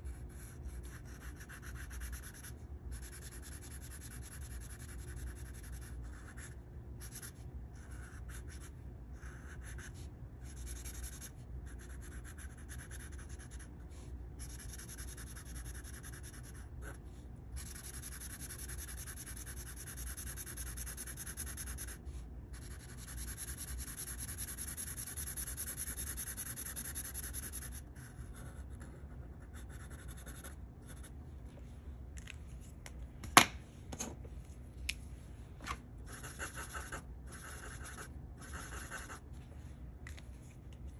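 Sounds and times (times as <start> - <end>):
marker scratching on paper: 0.0 - 31.1, 36.1 - 39.2.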